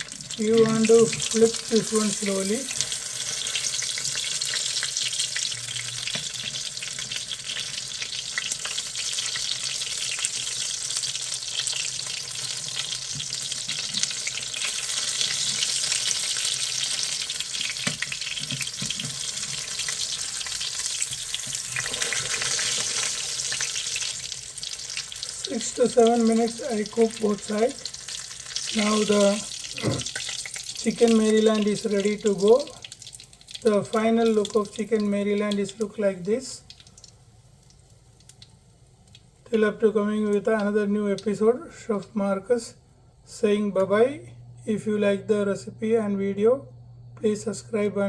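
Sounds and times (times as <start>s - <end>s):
chicken sizzling in oil: 0.0s - 39.5s.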